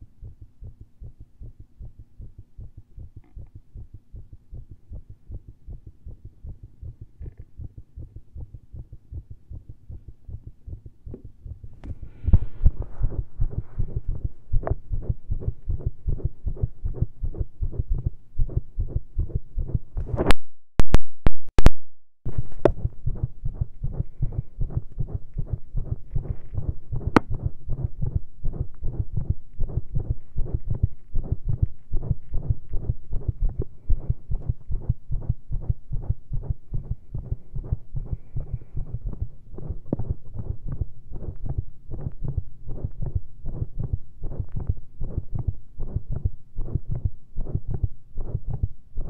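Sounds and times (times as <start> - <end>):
heartbeat through stethoscope: 0.0 - 20.4, 22.3 - 49.0.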